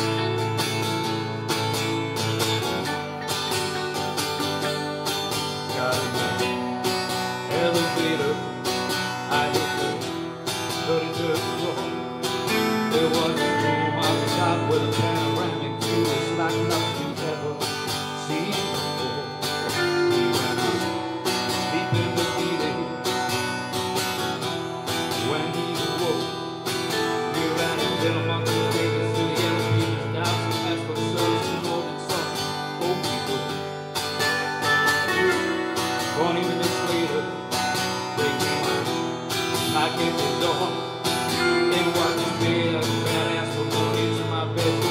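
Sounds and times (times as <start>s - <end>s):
guitars strumming and picking: 0.0s - 44.9s.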